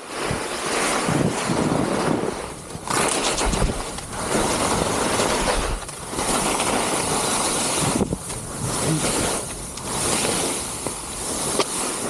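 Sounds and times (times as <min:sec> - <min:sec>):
skis scraping through snow: 0:00.0 - 0:12.0
wind buffeting microphone: 0:00.2 - 0:12.0.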